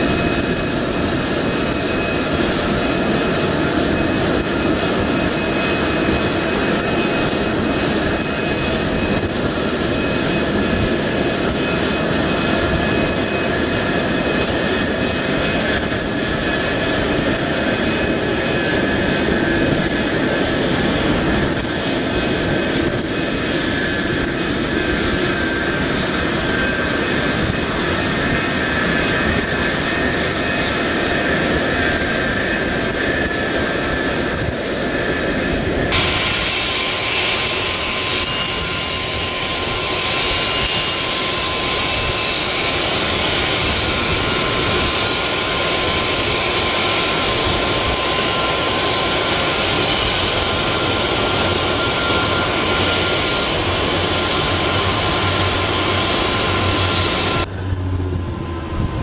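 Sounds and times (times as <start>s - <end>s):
jet engines rumble and whine: 0.0s - 59.0s.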